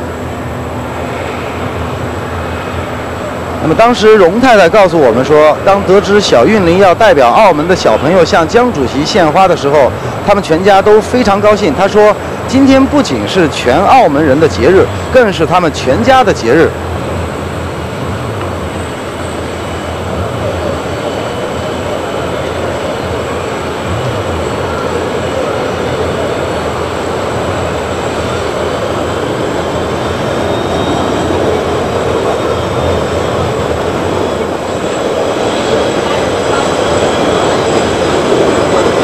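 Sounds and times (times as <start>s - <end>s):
jet aircraft rumbling roar: 0.0s - 39.0s.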